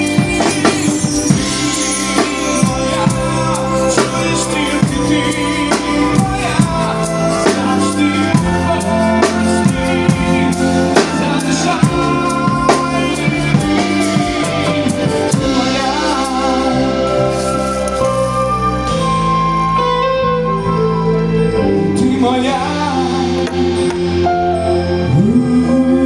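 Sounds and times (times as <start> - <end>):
drum kit steady beat: 0.0 - 19.3, 21.7 - 24.6
held instrumental chords: 0.0 - 26.0
person singing: 0.0 - 26.0.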